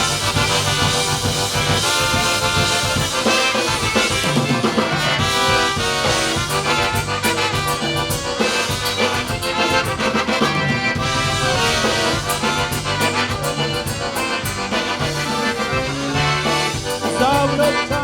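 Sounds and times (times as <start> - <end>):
accordion: 0.0 - 18.0
polka band playing: 0.0 - 18.0
steady drum beat: 0.0 - 18.0.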